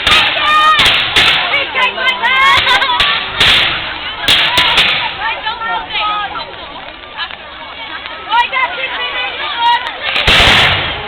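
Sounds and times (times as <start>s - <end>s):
fireworks cracking and banging: 0.0s - 8.5s, 9.6s - 11.0s.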